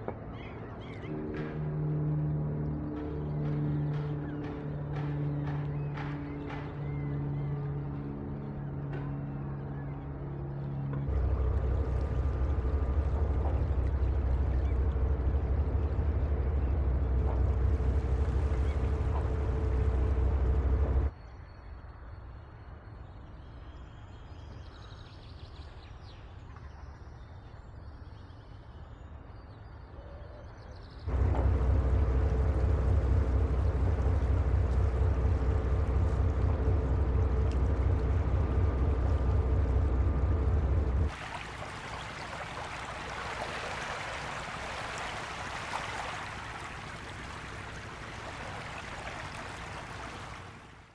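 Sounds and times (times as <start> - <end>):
low harbour rumble: 0.0 - 21.1, 31.0 - 50.9
ship engines droning: 0.0 - 21.1, 31.1 - 50.9.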